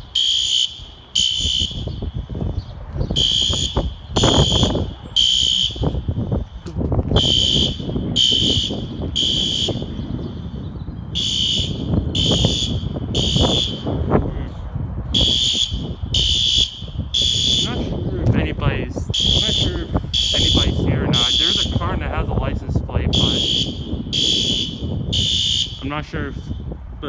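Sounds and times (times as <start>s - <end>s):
fire alarm horn beeping: 0.0s - 2.4s, 3.1s - 6.4s, 7.2s - 14.2s, 15.1s - 26.7s.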